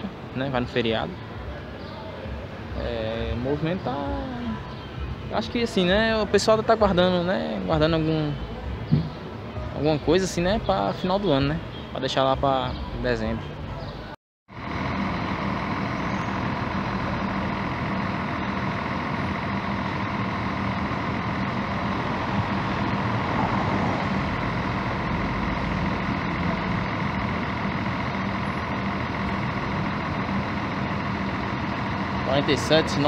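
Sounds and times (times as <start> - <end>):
diesel bus engine running: 0.0 - 33.0.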